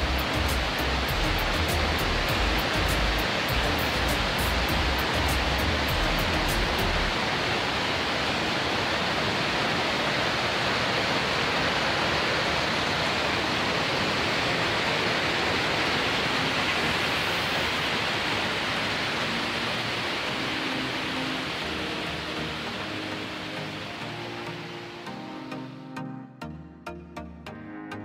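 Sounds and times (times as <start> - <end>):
waterfall roaring: 0.0 - 25.8.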